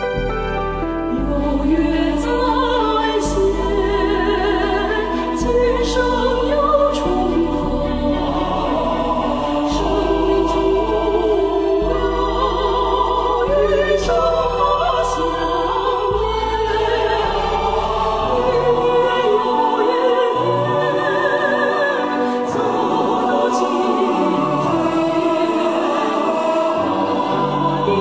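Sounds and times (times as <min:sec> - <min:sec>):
low sustained accompaniment: 0:00.0 - 0:28.0
choir singing slow song: 0:01.1 - 0:28.0.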